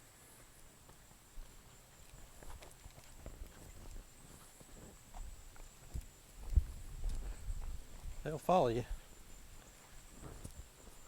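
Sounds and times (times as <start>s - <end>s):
footsteps on pasture ground: 0.1s - 11.0s.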